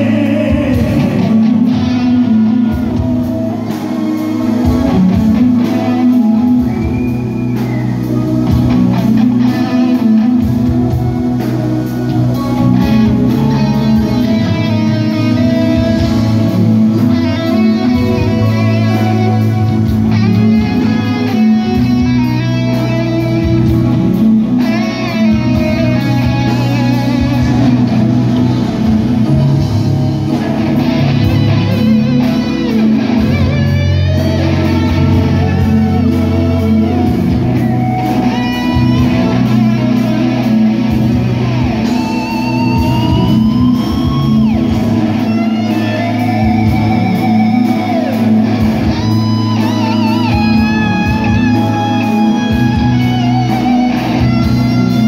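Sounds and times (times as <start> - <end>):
bass guitar: 0.0 - 55.0
drums: 0.0 - 55.0
electric guitar lead: 0.0 - 55.0.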